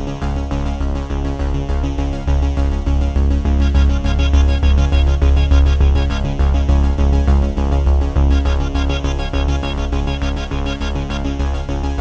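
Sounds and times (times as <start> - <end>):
music with pulsing bass: 0.0 - 12.0.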